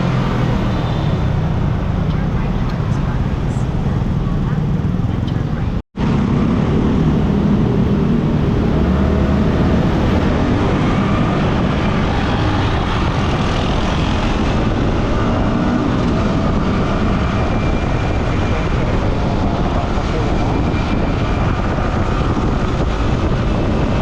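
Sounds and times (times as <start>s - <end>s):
road noise: 0.0s - 24.0s
wind noise: 0.0s - 24.0s.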